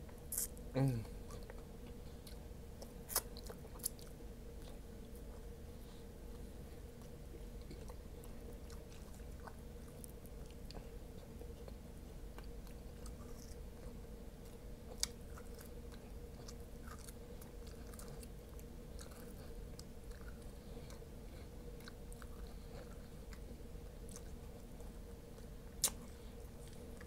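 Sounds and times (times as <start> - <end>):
man chewing meat: 0.0 - 27.0.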